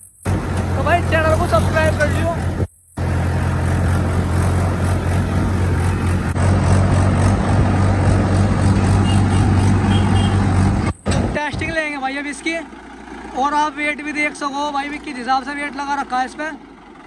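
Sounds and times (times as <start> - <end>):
tractor diesel engine humming: 0.0 - 17.0.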